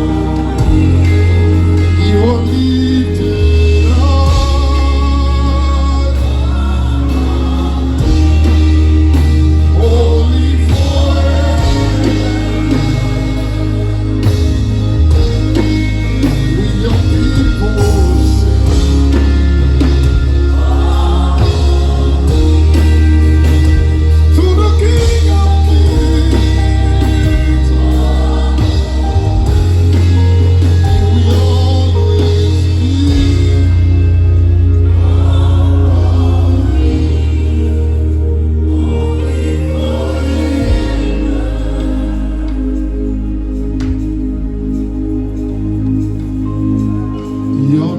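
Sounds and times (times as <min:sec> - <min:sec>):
band playing sustained chords: 0:00.0 - 0:47.9
voices singing: 0:00.0 - 0:47.9.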